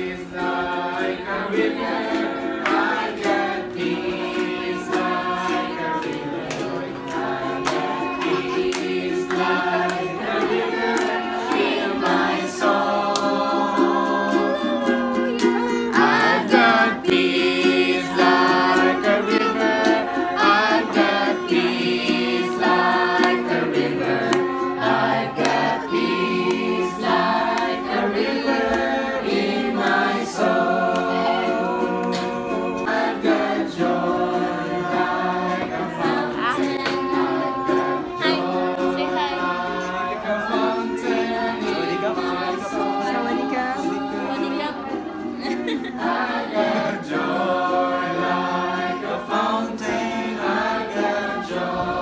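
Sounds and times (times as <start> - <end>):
choir singing over a beat: 0.0 - 52.0.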